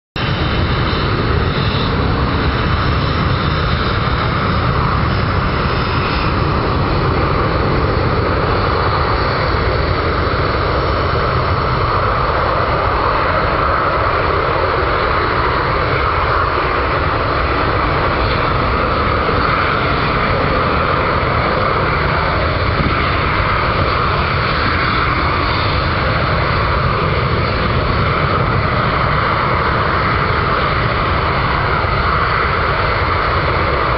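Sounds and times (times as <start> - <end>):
jet engines running: 0.2 - 33.9.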